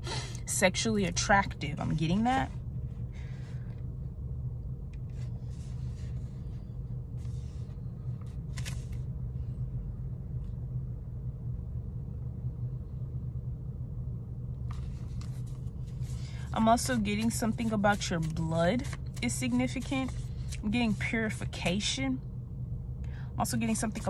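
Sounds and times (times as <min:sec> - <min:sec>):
car cabin low rumble: 0:00.0 - 0:22.2.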